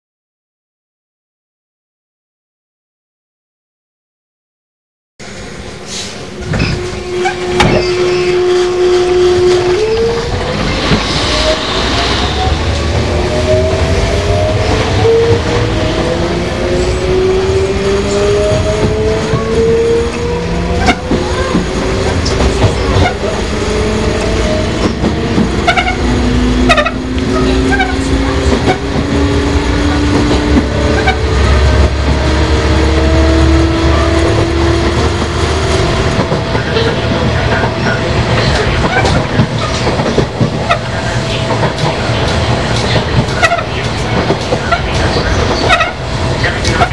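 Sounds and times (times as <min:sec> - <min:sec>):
heavy low rumble: 0:06.3 - 0:46.9.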